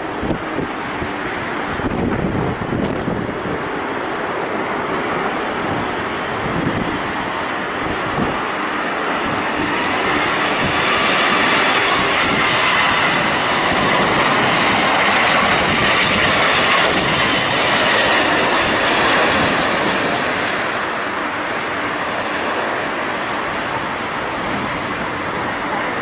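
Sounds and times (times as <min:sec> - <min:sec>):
jet engines roaring overhead: 0:00.0 - 0:26.0.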